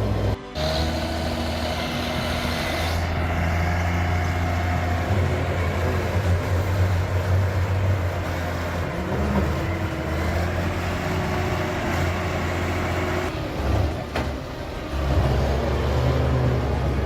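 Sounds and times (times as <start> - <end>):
heavy machine engine humming: 0.0 - 17.0.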